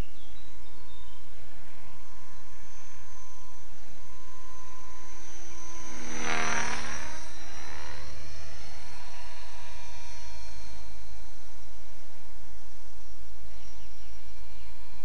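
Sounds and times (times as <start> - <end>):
buzzing motor passing by: 0.0 - 15.0.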